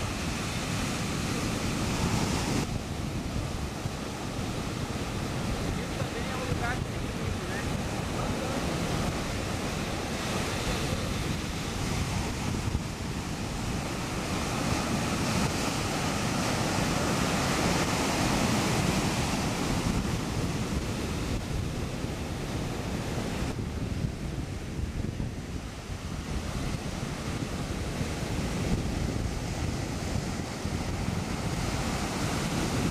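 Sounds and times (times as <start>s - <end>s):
ocean surf breaking: 0.0s - 32.9s
wind buffeting microphone: 0.0s - 32.9s.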